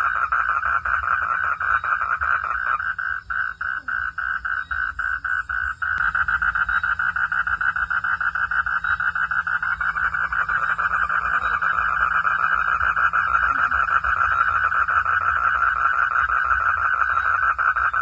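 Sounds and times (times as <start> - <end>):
chorus of frogs calling: 0.0 - 18.0.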